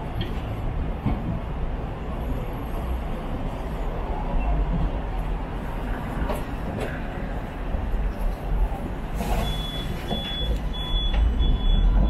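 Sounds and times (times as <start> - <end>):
electric tram rumbling: 0.0 - 12.0.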